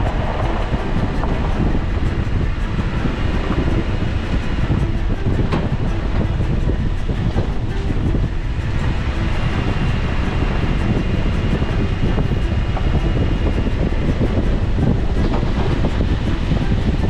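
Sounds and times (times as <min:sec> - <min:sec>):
gravel crunching and rattles: 0:00.0 - 0:17.0
vehicle rumbling on gravel road: 0:00.0 - 0:17.0.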